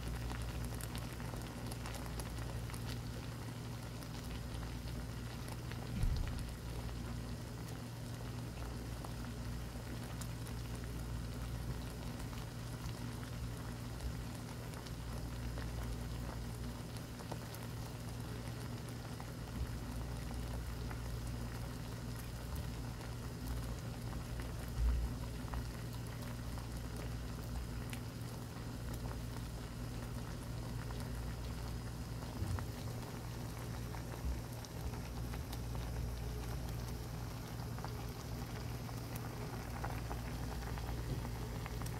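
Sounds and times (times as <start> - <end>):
low steady hum: 0.0 - 41.9
soup bubbling and popping: 0.0 - 41.9.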